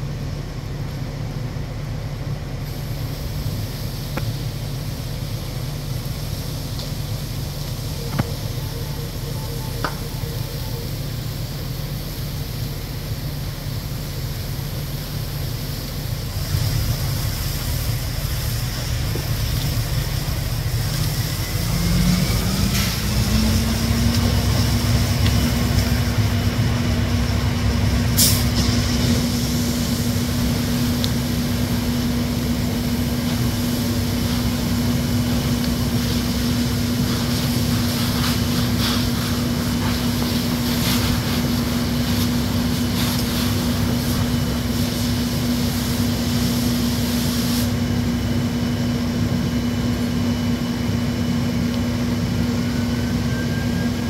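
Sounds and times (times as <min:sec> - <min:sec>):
heavy truck engine droning: 0:00.0 - 0:54.0
steady hiss: 0:02.5 - 0:49.2.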